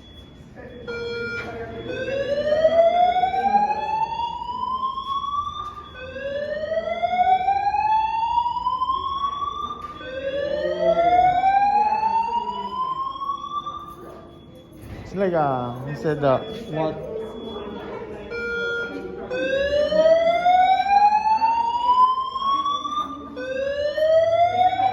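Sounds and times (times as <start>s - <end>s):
fire alarm whoop tone: 0.0s - 14.6s, 15.7s - 24.9s.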